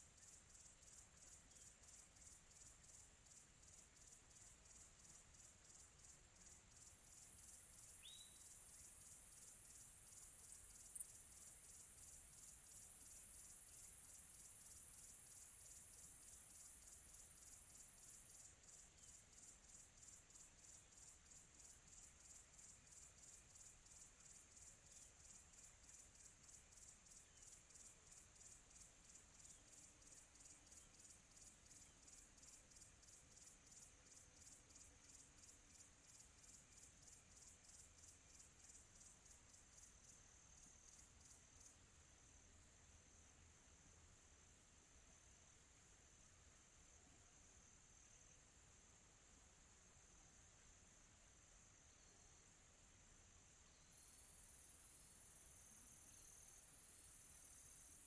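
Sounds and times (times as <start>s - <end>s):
crickets chirping: 0.0s - 58.0s
high insect trill: 0.0s - 58.0s.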